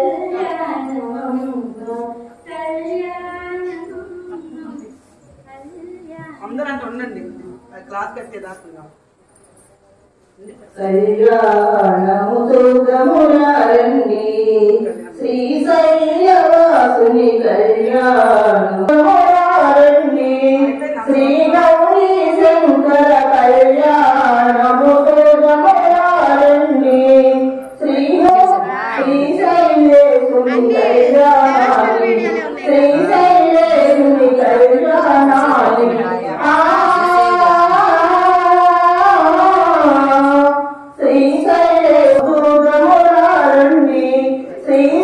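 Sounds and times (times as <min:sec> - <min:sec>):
women singing together: 0:00.0 - 0:05.1, 0:10.6 - 0:45.0.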